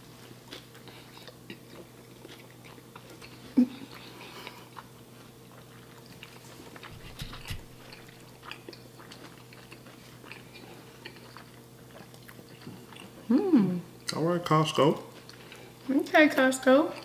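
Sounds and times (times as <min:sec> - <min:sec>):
low steady hum: 0:00.0 - 0:17.0
people chewing tacos: 0:00.0 - 0:17.0.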